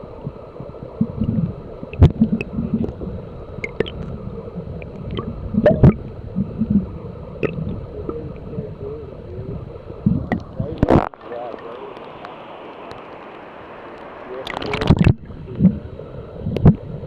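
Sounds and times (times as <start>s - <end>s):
muffled underwater river gurgling: 0.0s - 17.0s.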